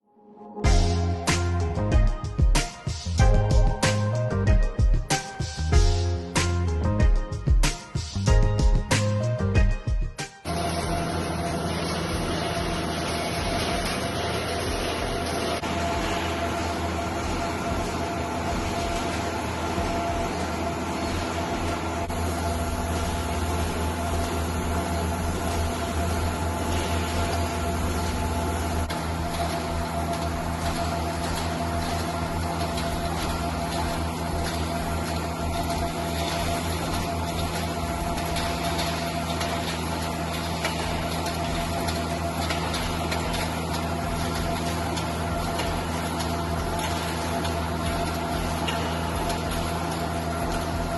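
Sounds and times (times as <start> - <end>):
wire machine humming and whining: 0.6 - 50.9.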